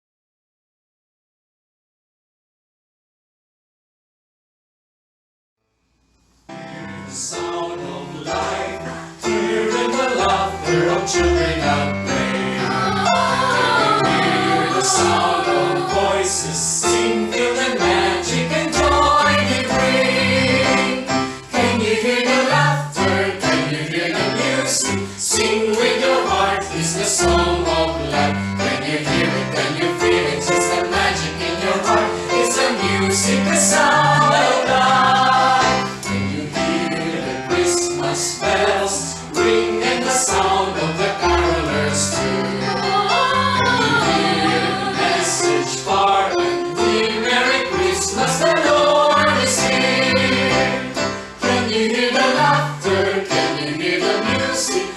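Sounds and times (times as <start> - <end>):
choir singing in harmony: 6.5 - 54.9.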